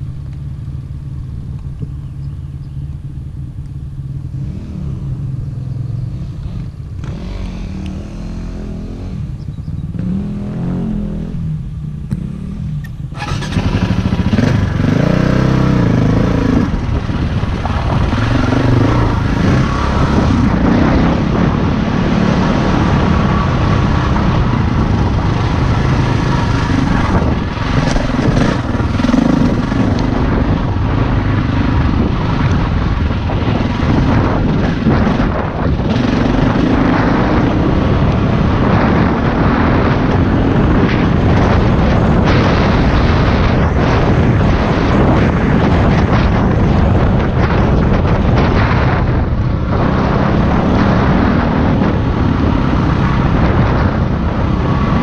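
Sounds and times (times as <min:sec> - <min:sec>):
motorcycle engine revving: 0:00.0 - 0:55.0
rushing noise: 0:10.0 - 0:55.0.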